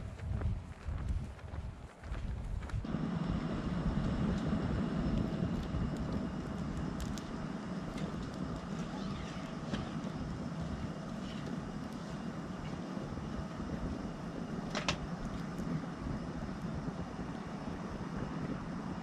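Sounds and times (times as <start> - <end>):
fire low rumble: 0.0 - 19.0
wood fire crackling: 2.6 - 19.0.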